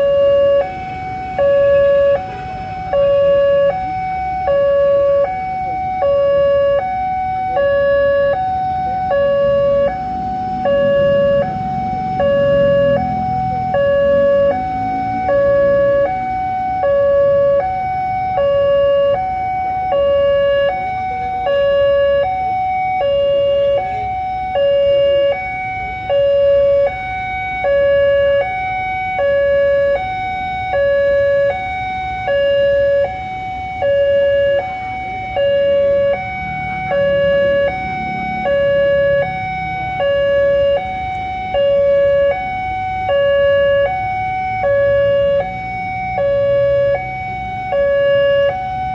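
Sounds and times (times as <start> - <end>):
two-tone crossing alarm: 0.0 - 48.9.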